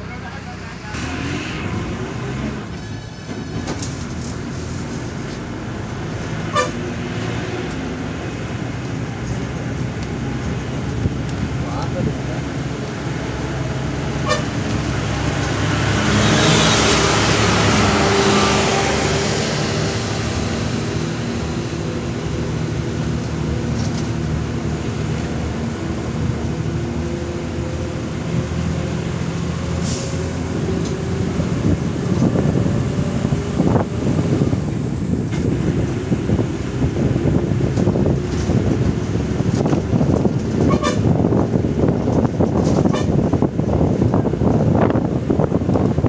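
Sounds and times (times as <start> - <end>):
vehicle engine and road noise: 0.0 - 46.0.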